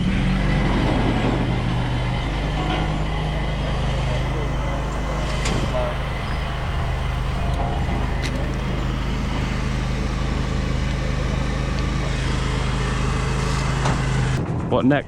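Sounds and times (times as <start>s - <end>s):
diesel truck engine running: 0.0s - 14.4s.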